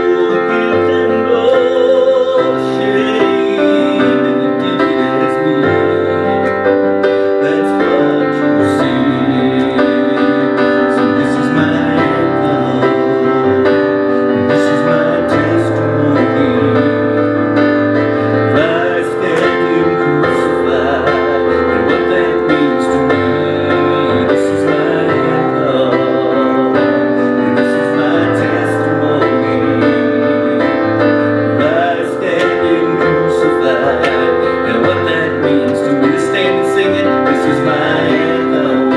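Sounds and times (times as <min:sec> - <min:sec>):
piano and keyboard chords: 0:00.0 - 0:38.9.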